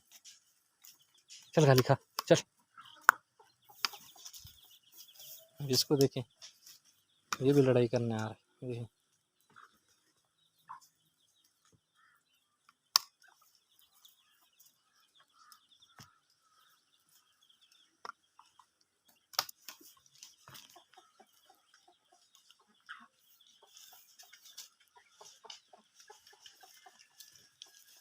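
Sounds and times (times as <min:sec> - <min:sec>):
hen clucking: 0:00.2 - 0:08.8, 0:10.6 - 0:28.0.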